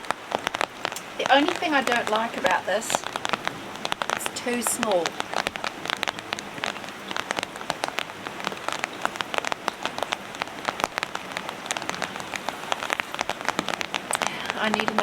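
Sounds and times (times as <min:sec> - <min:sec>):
rain drops ticking on hard surface: 0:00.0 - 0:15.0.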